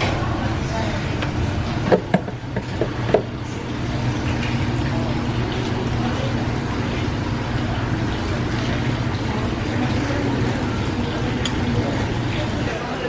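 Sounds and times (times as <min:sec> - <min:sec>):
low background hum: 0:00.0 - 0:12.8.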